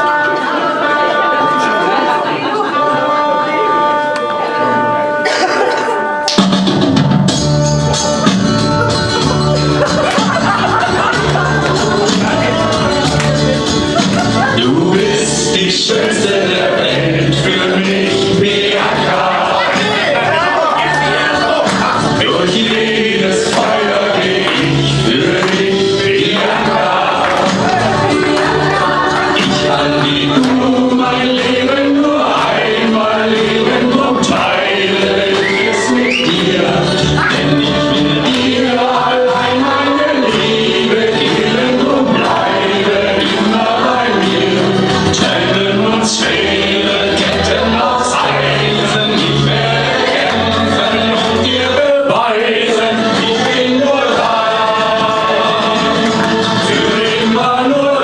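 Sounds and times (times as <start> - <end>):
backing music: 0.0 - 58.0
men singing in unison: 9.4 - 58.0.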